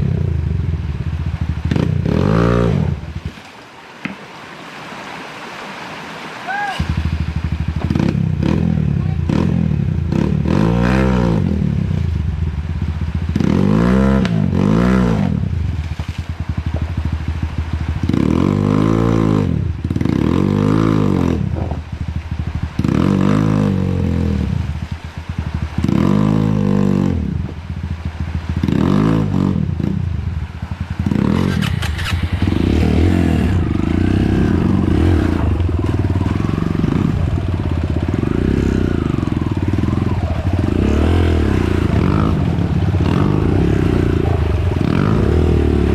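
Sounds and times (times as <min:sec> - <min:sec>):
dirt bike engine revving: 0:01.4 - 0:03.3, 0:06.7 - 0:11.9, 0:12.8 - 0:15.6, 0:16.4 - 0:45.9.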